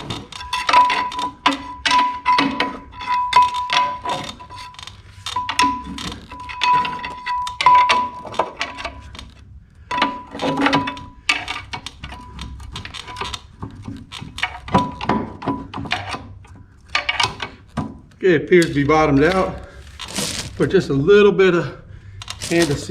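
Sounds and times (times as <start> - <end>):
metal tools clinking and knocking: 0.0 - 18.0, 22.2 - 22.9.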